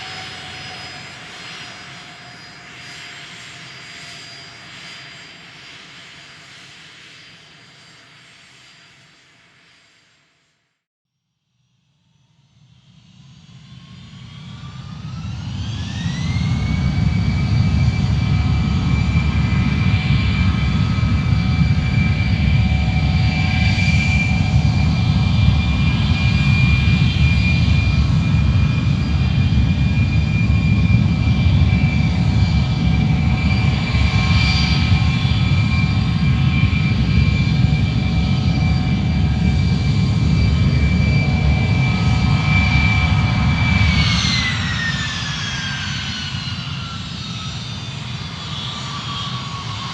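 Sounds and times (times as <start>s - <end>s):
jet engine whine: 0.0s - 10.5s, 12.0s - 49.9s.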